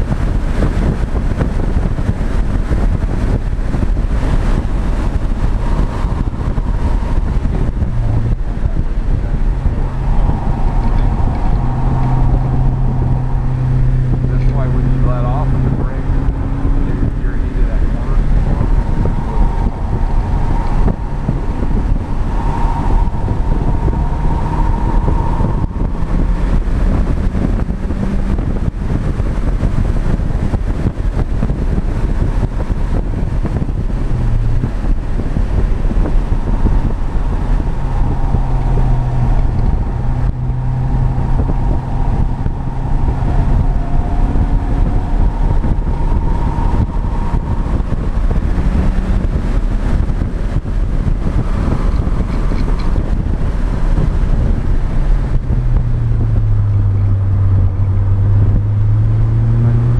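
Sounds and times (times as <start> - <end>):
car engine running hard: 0.0 - 59.9
road and wind noise: 0.0 - 59.9.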